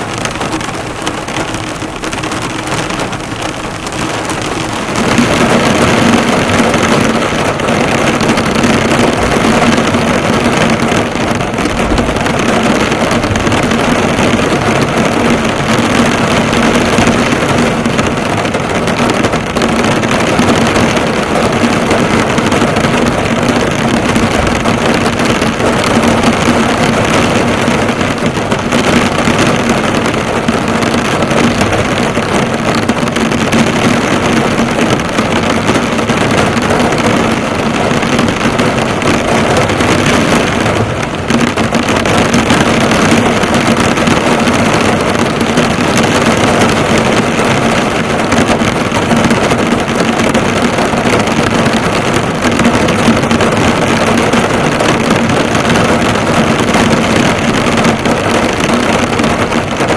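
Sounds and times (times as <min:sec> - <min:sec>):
heavy rain drumming on car: 0:00.0 - 0:59.9.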